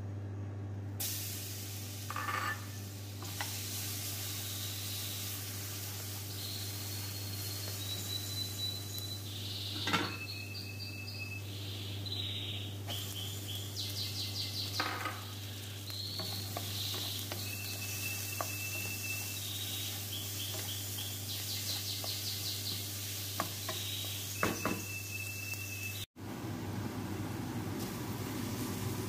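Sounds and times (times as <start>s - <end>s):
garlic and onion sizzling in oil: 1.0s - 29.0s.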